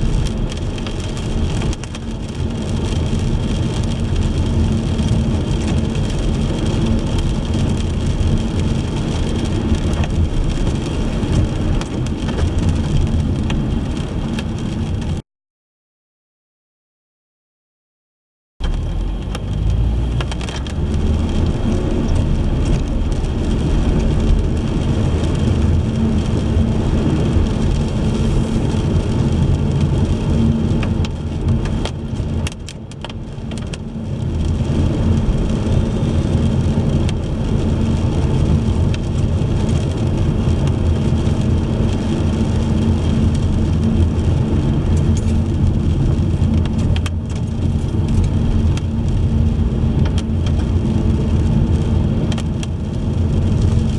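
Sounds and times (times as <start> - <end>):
car engine and tyre noise: 0.0 - 15.2, 18.6 - 53.9.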